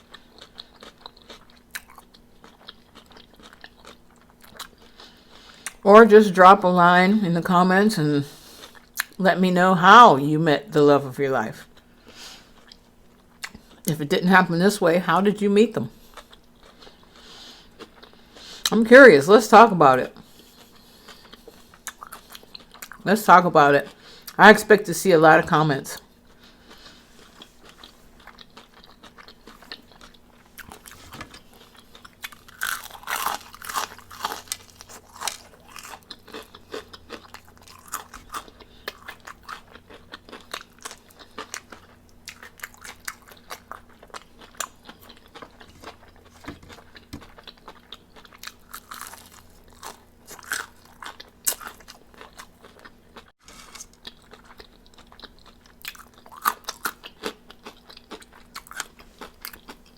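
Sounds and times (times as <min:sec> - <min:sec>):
person chewing crispy chicken: 0:00.0 - 0:05.8, 0:08.4 - 0:09.2, 0:11.6 - 0:13.9, 0:15.9 - 0:18.7, 0:20.2 - 0:23.0, 0:26.0 - 0:59.9.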